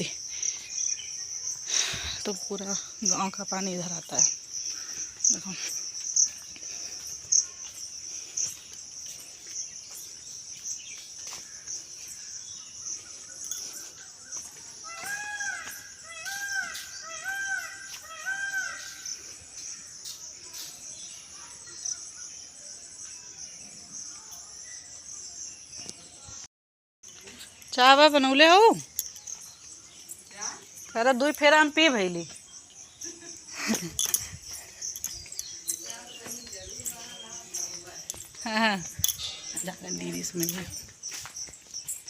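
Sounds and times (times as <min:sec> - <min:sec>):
insects droning: 0:00.0 - 0:26.4, 0:27.1 - 0:42.0.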